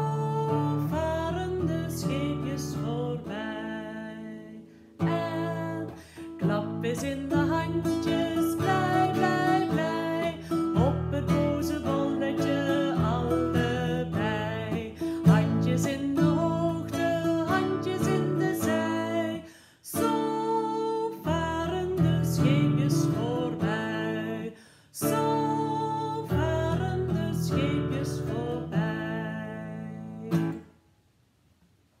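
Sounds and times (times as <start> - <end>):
woman singing: 0.0 - 30.7
classical guitar strumming: 0.0 - 30.8.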